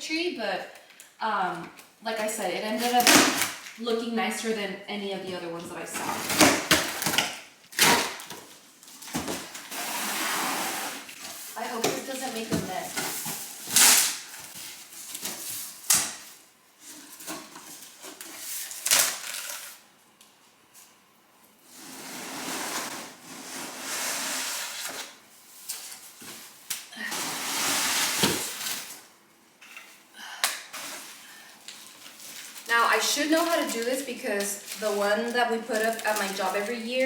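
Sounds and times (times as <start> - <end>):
rustling of tree packaging: 5.4 - 19.8, 21.7 - 37.0.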